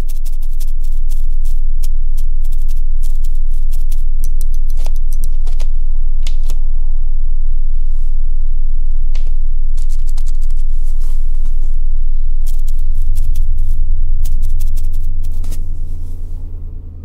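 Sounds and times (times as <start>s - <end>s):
loud steady low drone: 0.0s - 17.0s.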